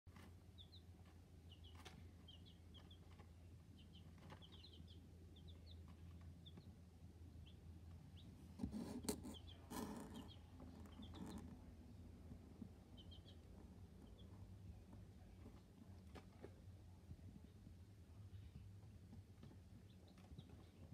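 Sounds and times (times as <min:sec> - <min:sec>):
chicks peeping: 0:00.1 - 0:20.9.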